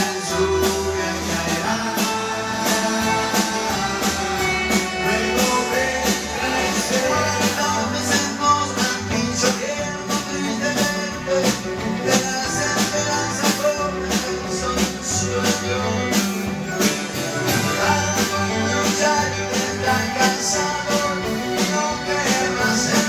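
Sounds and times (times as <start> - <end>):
band music with steady beat: 0.0 - 23.0.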